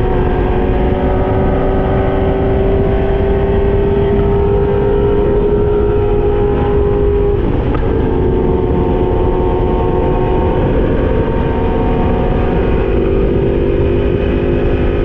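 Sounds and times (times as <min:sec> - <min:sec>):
motorcycle engine running: 0:00.0 - 0:15.0
wind rush over microphone: 0:00.0 - 0:15.0.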